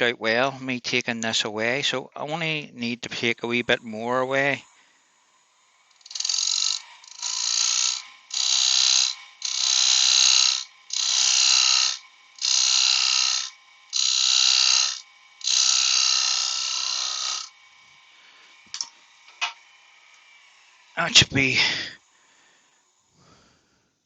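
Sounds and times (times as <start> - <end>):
turning tool cutting wood: 1.0 - 23.1
lathe humming: 1.5 - 23.1.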